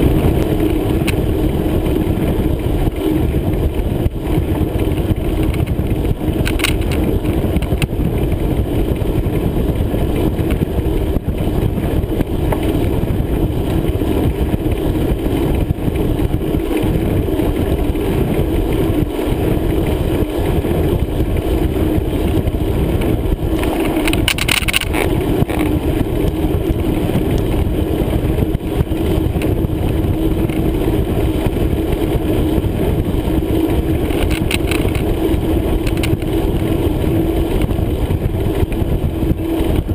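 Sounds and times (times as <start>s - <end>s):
bicycle tyre noise: 0.0s - 39.9s
wind buffeting microphone: 0.0s - 39.9s.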